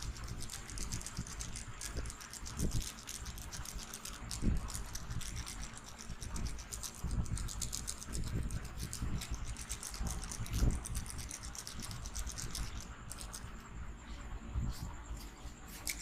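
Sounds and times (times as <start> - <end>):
scratching on hair and scalp: 0.0 - 16.0.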